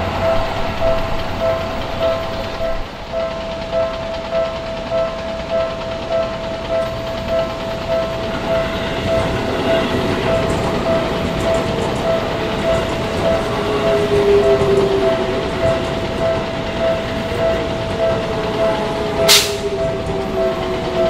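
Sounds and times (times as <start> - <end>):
faint train whine: 0.0 - 21.0
level-crossing bell ringing: 0.0 - 21.0
train wheels rumbling on rails: 0.0 - 21.0.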